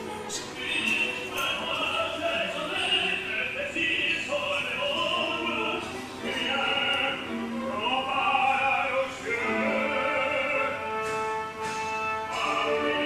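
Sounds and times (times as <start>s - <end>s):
musical accompaniment: 0.0s - 13.0s
operatic singing: 0.0s - 13.0s.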